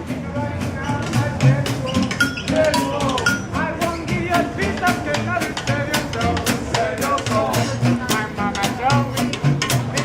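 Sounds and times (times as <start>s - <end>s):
drums beating: 0.0s - 10.0s
sliding melody line: 0.0s - 10.0s.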